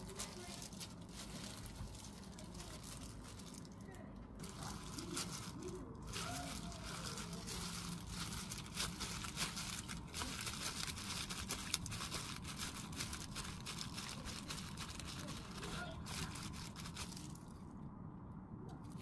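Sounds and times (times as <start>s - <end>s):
plastic gloves and seaweed crinkling: 0.0s - 17.8s.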